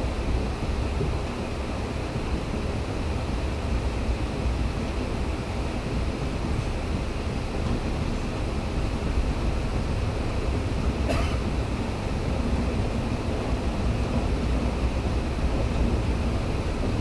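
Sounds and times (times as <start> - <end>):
train wheels rumbling on rails: 0.0 - 17.0
wind rushing over microphone: 0.0 - 17.0.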